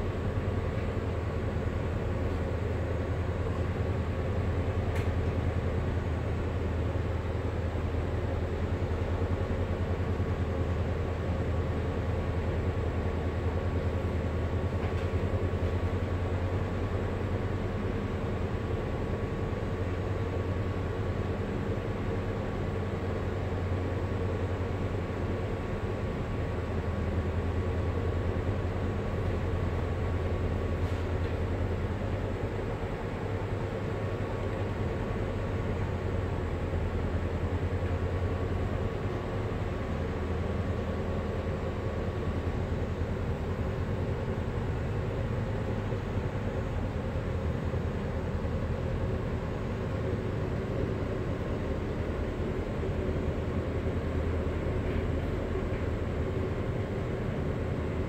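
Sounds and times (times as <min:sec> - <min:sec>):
engine machinery low drone: 0:00.0 - 0:58.0
faint machinery whine: 0:00.0 - 0:58.0.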